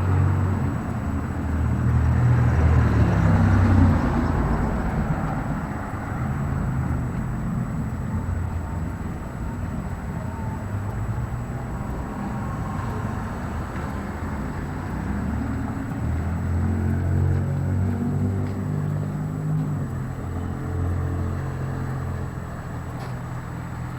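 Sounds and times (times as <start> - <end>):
low engine sound: 0.0 - 23.9
traffic hum: 0.0 - 23.9.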